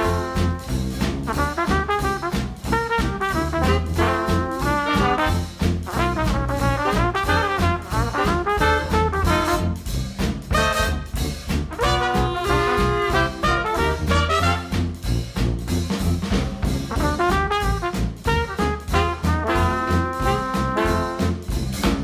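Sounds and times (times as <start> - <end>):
upbeat brass music: 0.0 - 22.0.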